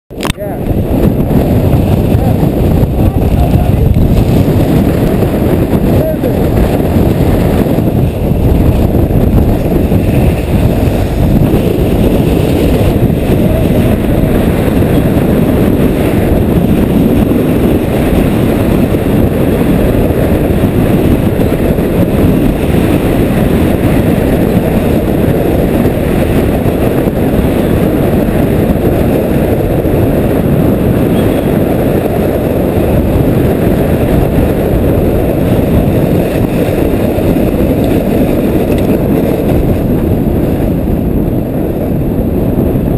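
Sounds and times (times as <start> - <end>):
wind buffeting microphone: 0.1 - 42.9.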